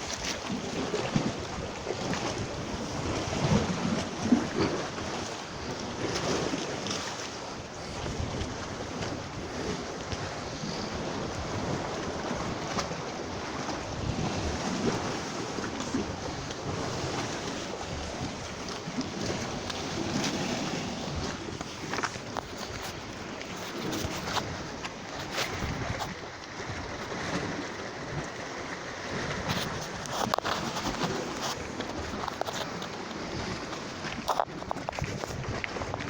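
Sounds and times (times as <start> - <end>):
sea waves washing: 0.0 - 36.0
wind blowing on microphone: 0.0 - 36.0.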